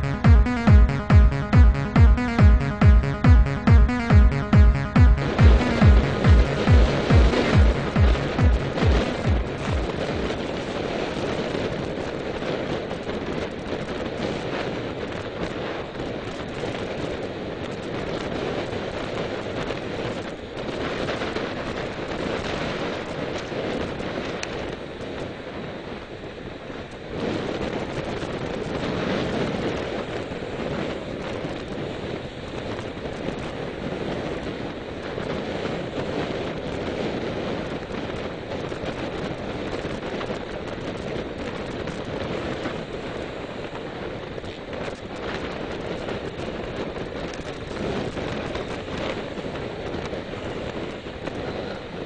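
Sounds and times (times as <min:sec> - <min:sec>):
wind rushing over microphone: 0:08.4 - 0:52.0.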